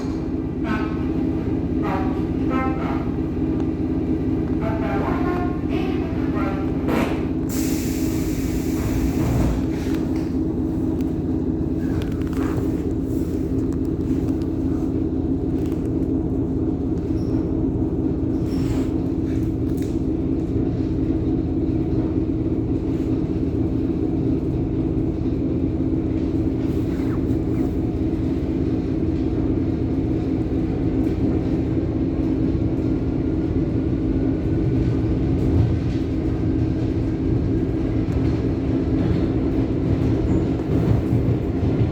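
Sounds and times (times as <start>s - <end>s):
electric train rumbling: 0.0s - 41.9s.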